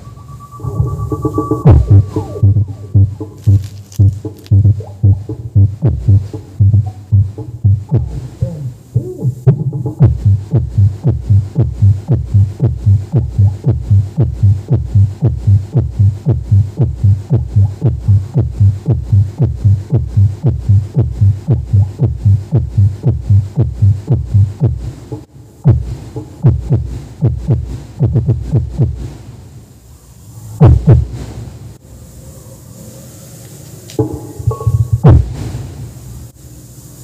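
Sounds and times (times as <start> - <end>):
bass-heavy music with kick drum: 0.6 - 29.1, 30.6 - 31.2, 34.0 - 35.4.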